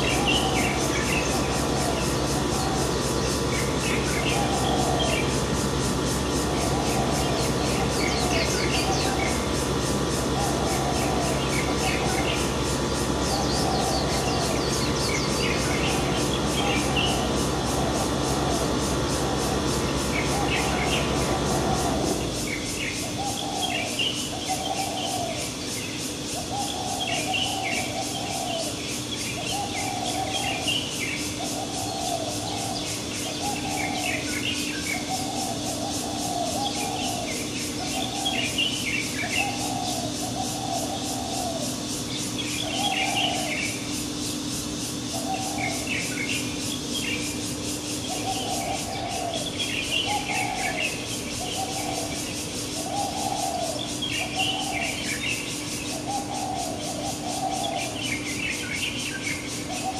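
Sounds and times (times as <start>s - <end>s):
bird cooing: 0.0s - 59.9s
birds chirping: 0.0s - 59.9s.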